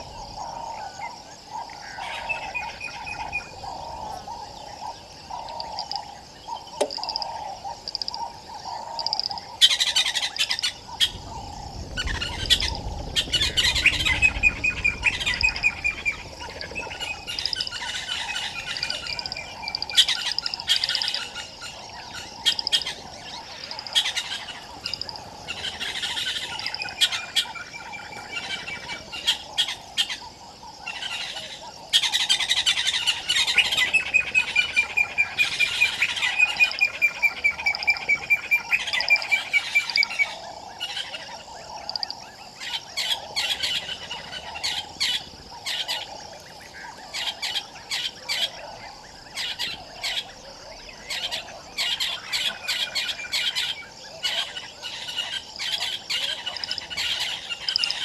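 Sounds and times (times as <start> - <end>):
birds chirping and chattering: 0.0 - 58.0.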